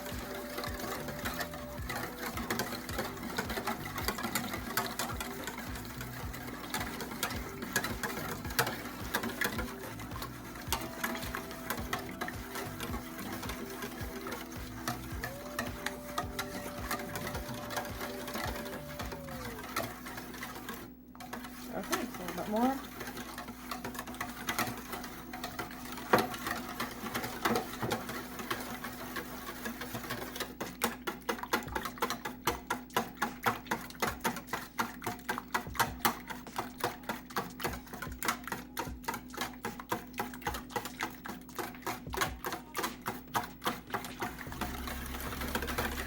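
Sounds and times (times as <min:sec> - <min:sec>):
whisk beating batter in bowl: 0:00.0 - 0:46.0.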